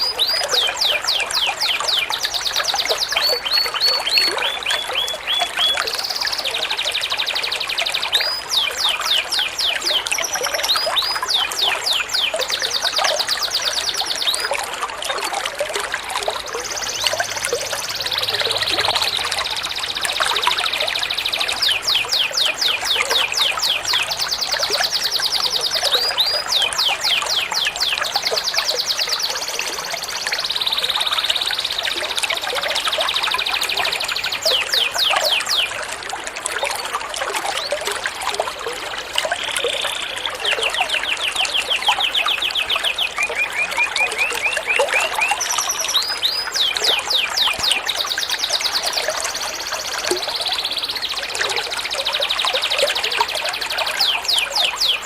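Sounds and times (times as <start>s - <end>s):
songbird trilling: 0.0s - 14.5s, 16.6s - 31.7s, 32.8s - 35.8s, 39.4s - 51.0s
trickling water: 0.0s - 55.0s.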